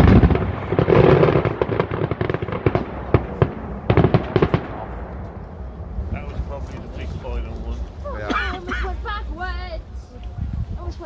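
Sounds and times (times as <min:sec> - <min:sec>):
heavy firework bang: 0:00.0 - 0:10.9
fireworks crackling: 0:00.0 - 0:11.0.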